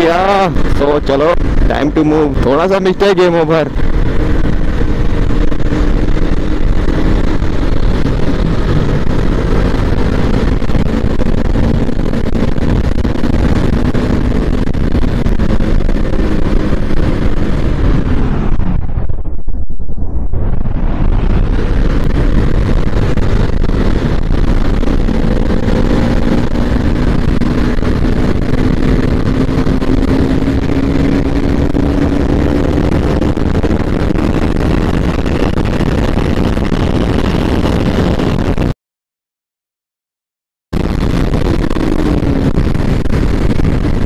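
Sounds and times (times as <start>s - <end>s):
motorcycle engine at speed: 0.0s - 38.7s, 40.8s - 44.0s
wind rush over microphone: 0.0s - 38.8s, 40.7s - 44.0s.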